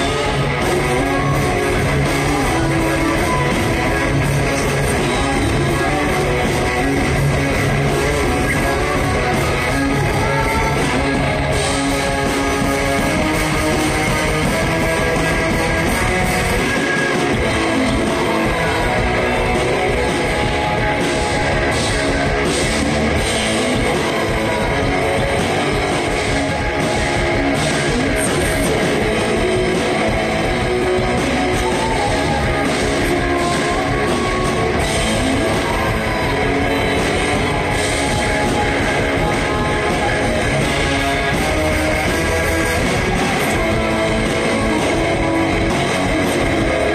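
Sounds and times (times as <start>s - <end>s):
drum kit: 0.0s - 46.9s
electric guitars: 0.0s - 46.9s.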